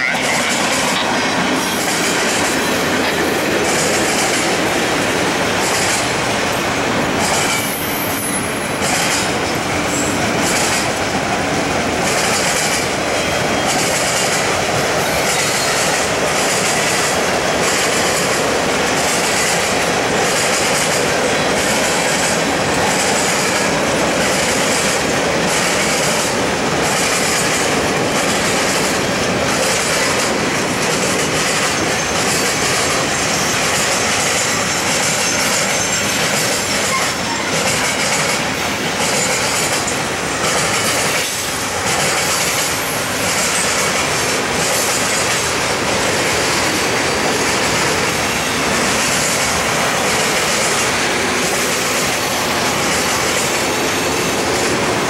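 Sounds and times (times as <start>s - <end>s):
freight cars rumbling on bridge: 0.0s - 55.0s.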